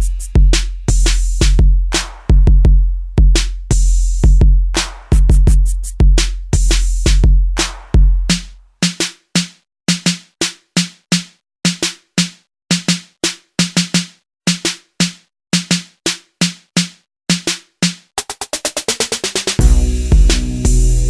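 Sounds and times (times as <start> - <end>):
drum machine fast roll: 0.0 - 21.0
drum machine snare hits: 0.0 - 21.0.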